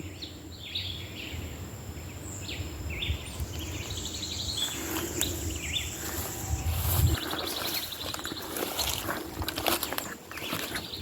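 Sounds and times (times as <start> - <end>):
bird chirping: 0.0 - 9.1
high-pitched whine: 0.0 - 10.4.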